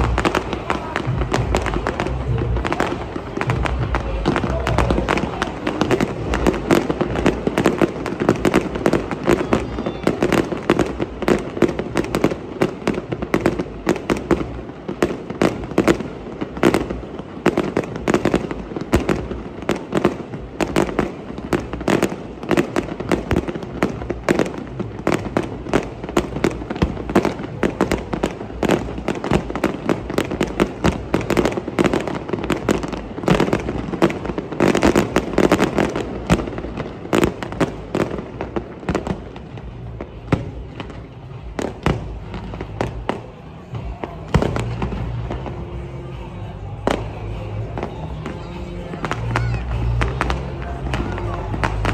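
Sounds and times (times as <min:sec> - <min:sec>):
fireworks bangs and crackle: 0:00.0 - 0:51.9.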